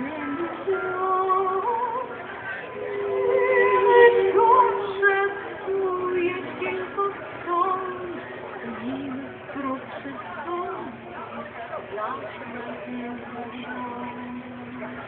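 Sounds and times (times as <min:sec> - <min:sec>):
women singing folk song together: 0:00.0 - 0:11.0, 0:12.4 - 0:15.0
stringed instruments: 0:00.0 - 0:15.0.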